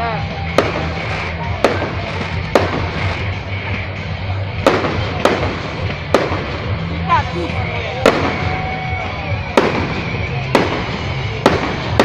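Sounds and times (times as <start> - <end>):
background music: 0.0 - 12.0
fireworks bangs: 0.2 - 12.0.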